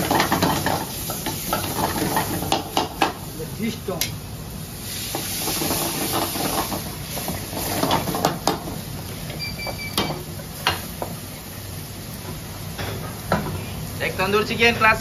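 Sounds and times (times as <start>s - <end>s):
burner flames hissing: 0.0s - 15.0s
food sizzling in frying pan: 0.0s - 15.0s.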